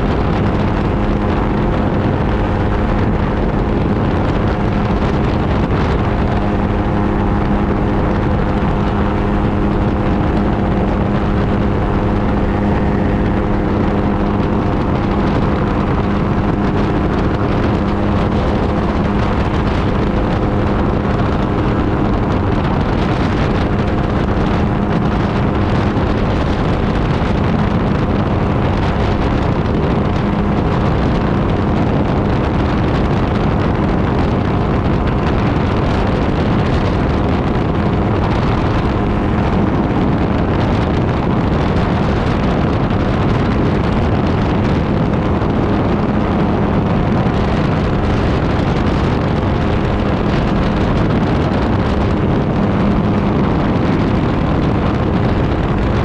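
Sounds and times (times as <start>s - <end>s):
ultralight engine and propeller droning: 0.0s - 56.0s
wind rushing over cockpit: 0.0s - 56.0s.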